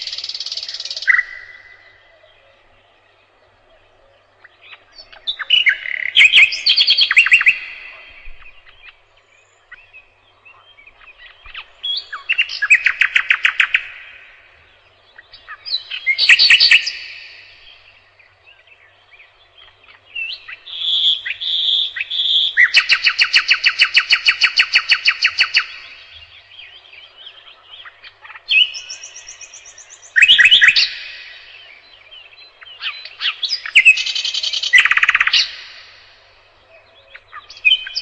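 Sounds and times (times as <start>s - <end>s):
nightingale singing: 0.0s - 38.0s.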